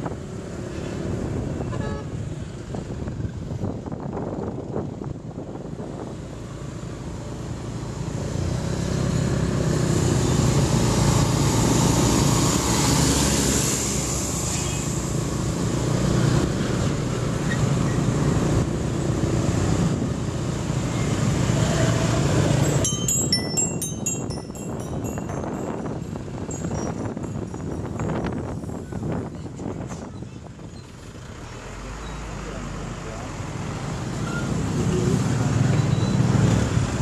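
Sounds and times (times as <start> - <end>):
tyre and wind noise: 0.0 - 31.6
engine rumble: 0.0 - 37.0
road traffic: 0.0 - 37.0
large truck passing: 5.7 - 37.0.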